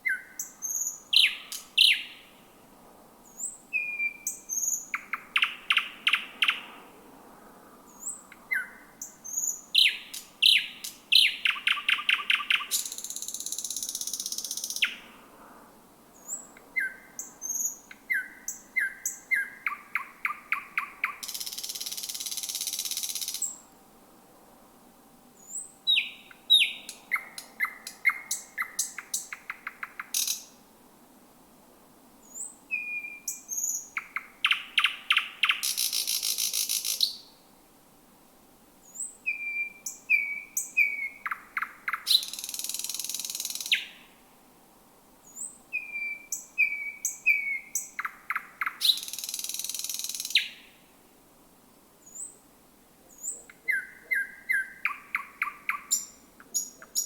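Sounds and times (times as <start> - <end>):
nightingale singing: 0.0 - 2.4, 3.2 - 6.7, 7.9 - 15.1, 16.2 - 23.7, 25.4 - 30.6, 32.2 - 37.4, 38.8 - 44.2, 45.2 - 50.8, 52.0 - 52.4, 53.0 - 57.0.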